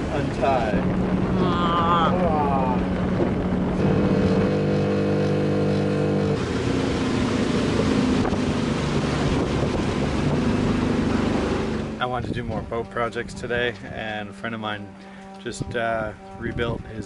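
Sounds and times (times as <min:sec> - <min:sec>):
wind on microphone: 0:00.0 - 0:14.3, 0:14.9 - 0:17.0
boat engine running: 0:00.0 - 0:17.0.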